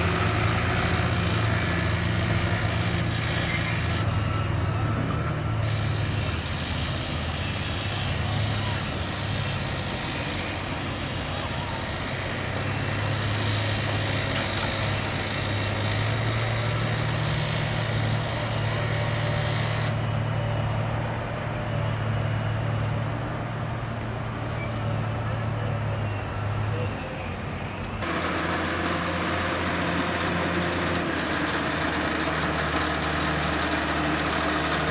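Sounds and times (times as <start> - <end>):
heavy vehicle engine running: 0.0 - 34.9.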